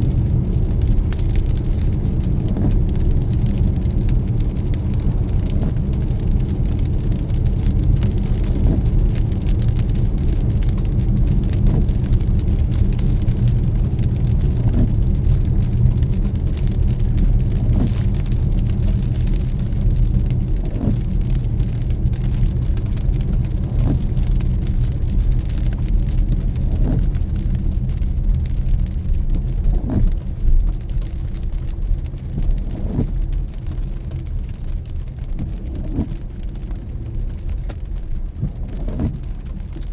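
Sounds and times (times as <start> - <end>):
rain hiss: 0.0 - 39.9
road and engine rumble: 0.0 - 39.9
windshield wipers sweeping: 0.0 - 39.9.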